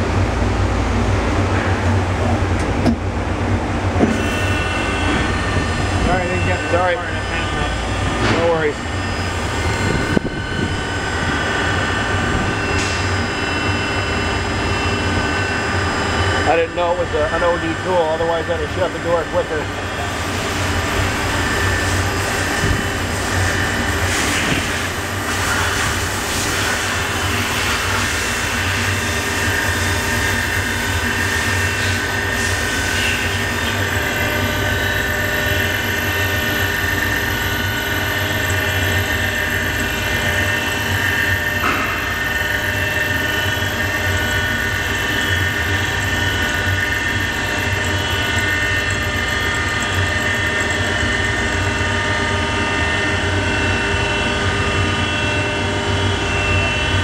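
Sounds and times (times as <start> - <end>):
machine whine: 0.0 - 57.0
rough metal cutting noise: 4.1 - 57.0.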